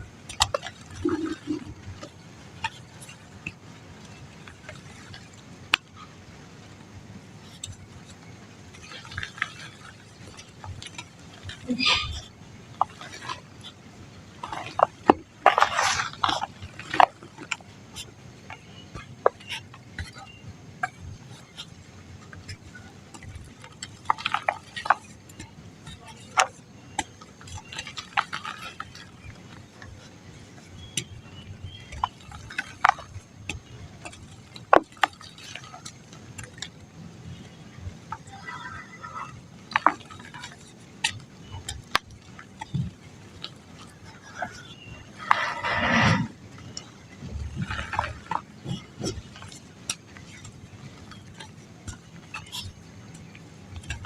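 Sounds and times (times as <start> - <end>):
dry mud crumbling: 0.0 - 54.0.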